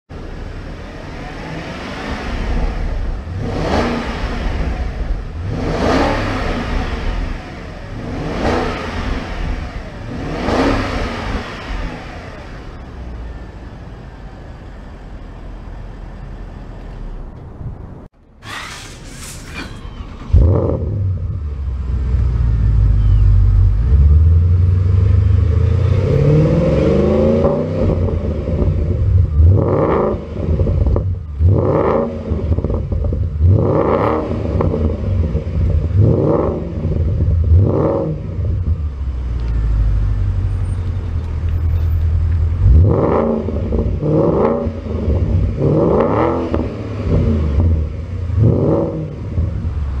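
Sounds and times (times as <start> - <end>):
car engine starting and idling: 0.1 - 50.0
engine revving in throttle blips: 0.6 - 13.3, 18.4 - 50.0.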